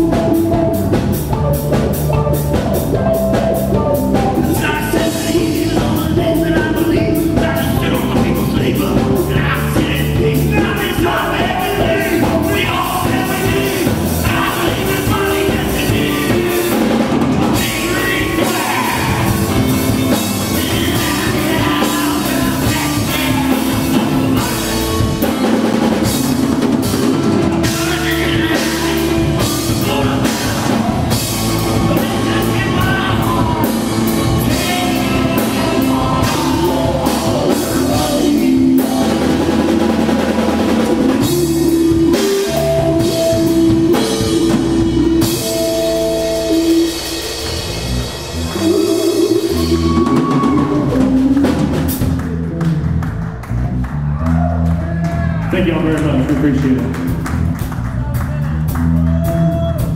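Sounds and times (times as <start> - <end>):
drum and cymbal hits: 0.0 - 52.4
bass guitar: 0.0 - 59.9
electric guitar: 0.0 - 59.9.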